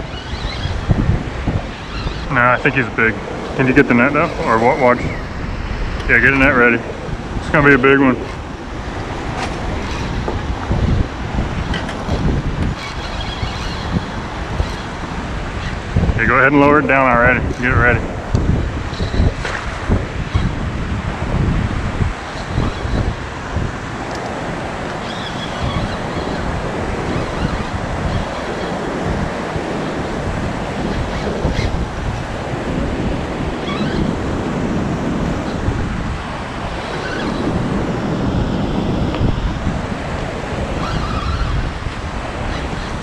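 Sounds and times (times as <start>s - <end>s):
churning water rushing: 0.0s - 43.0s
wind buffeting microphone: 0.0s - 43.0s.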